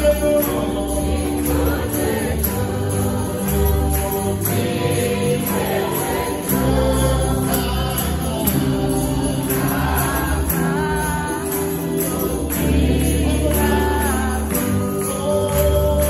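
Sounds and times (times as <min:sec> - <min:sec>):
congregation singing a hymn: 0:00.0 - 0:16.0
hands clapping in time: 0:00.0 - 0:16.0.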